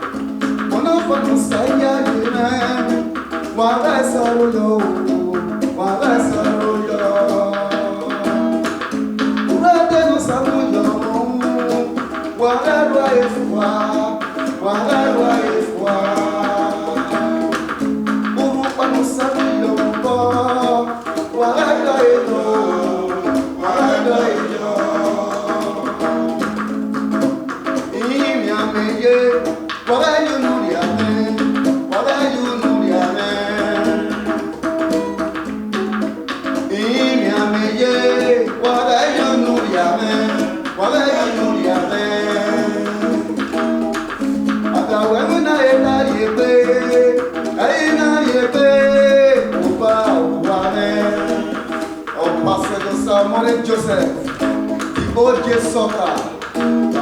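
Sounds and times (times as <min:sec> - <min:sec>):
highlife band music: 0:00.0 - 0:57.0.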